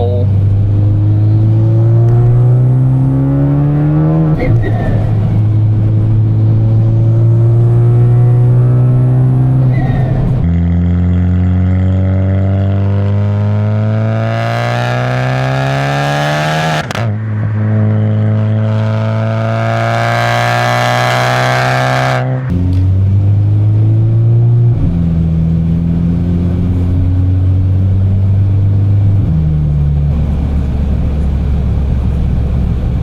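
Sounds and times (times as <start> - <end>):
car exhaust accelerating through gears: 0.0 - 33.0.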